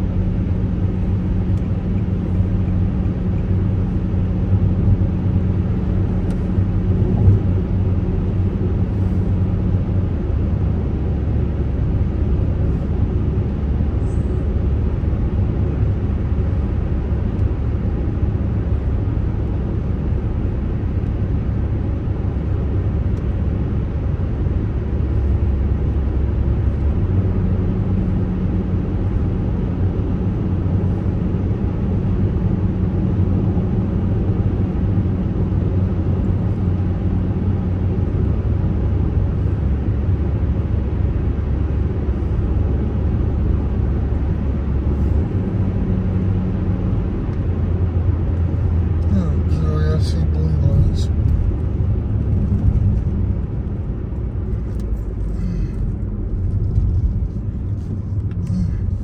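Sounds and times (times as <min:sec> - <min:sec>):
car engine and tyre rumble: 0:00.0 - 0:59.0
low hum: 0:00.0 - 0:59.0.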